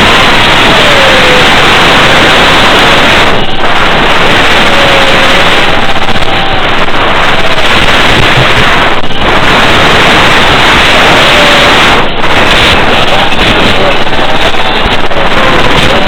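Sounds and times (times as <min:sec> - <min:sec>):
propeller and wind rush: 0:00.0 - 0:16.0
wavering motor whine: 0:00.0 - 0:16.0.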